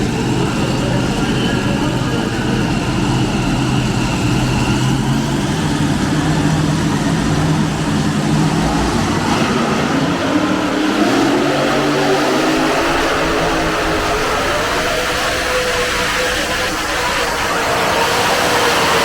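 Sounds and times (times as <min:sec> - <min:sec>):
tractor engine running hard: 0:00.0 - 0:19.0.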